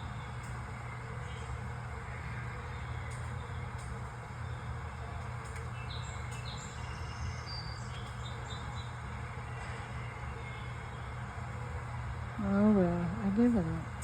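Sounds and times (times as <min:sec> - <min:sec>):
small birds chirping on television: 0:00.0 - 0:14.0
steady hum: 0:00.0 - 0:14.0.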